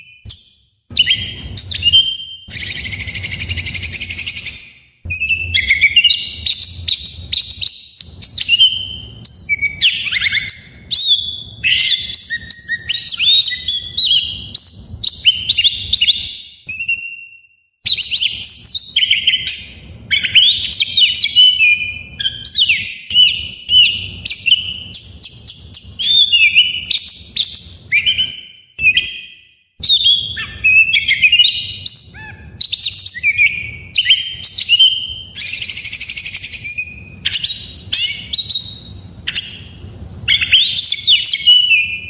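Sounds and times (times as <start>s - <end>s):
songbird singing: 0.0s - 42.0s.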